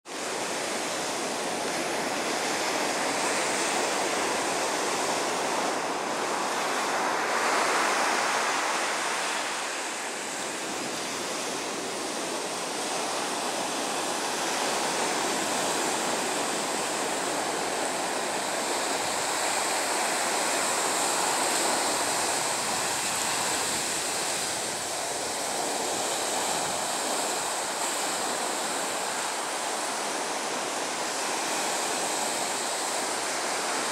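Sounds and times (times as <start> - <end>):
sea waves breaking on beach: 0.1 - 33.9.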